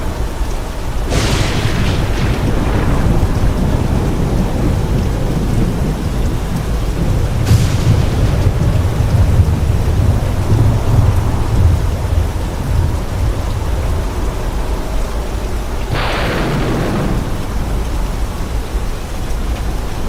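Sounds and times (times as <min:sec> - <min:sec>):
rolling thunder: 0:00.0 - 0:20.0
steady rain: 0:00.0 - 0:20.0
sharp thunder crack: 0:01.0 - 0:14.7, 0:15.8 - 0:19.5.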